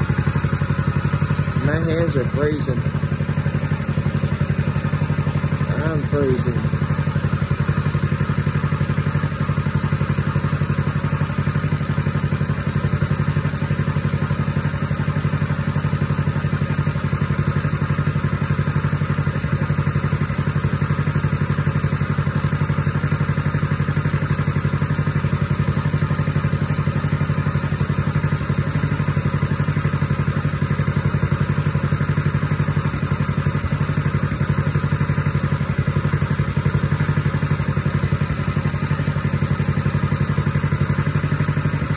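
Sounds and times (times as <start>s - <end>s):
small engine idling: 0.0s - 41.9s.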